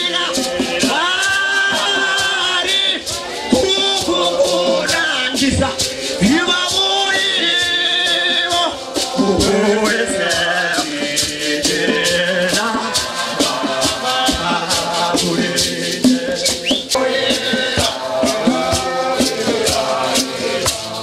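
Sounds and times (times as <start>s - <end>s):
gourd shakers rattling: 0.0s - 21.0s
men's choir singing: 0.0s - 21.0s.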